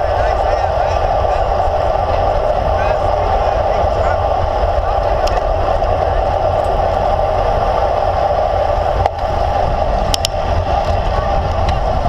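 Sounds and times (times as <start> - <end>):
tyre and road noise: 0.0 - 12.0
wind rushing over microphone: 0.0 - 12.0.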